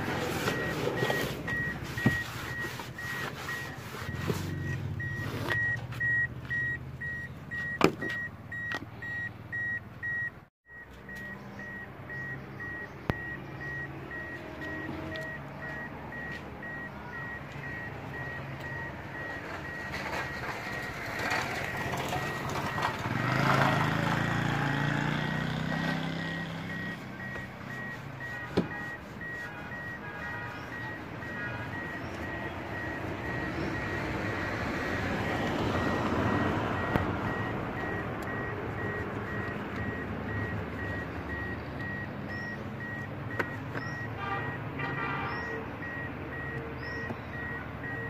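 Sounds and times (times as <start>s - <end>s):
high electronic beeps: 0.4s - 23.5s, 25.4s - 44.6s, 45.4s - 48.0s.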